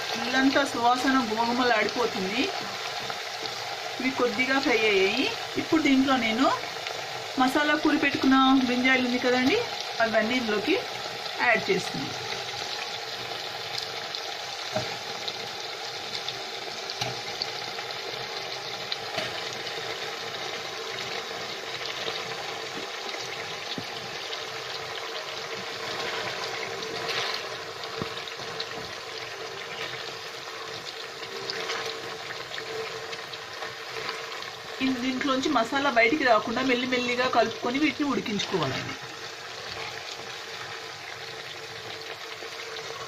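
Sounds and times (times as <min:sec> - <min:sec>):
vegetables frying in oil: 0:00.0 - 0:43.0.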